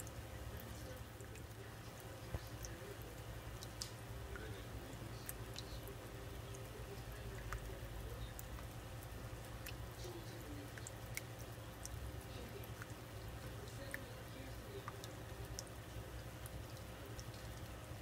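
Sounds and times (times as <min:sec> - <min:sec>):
steady low hum: 0:00.0 - 0:18.0
turtle eating wet clicks: 0:00.0 - 0:18.0.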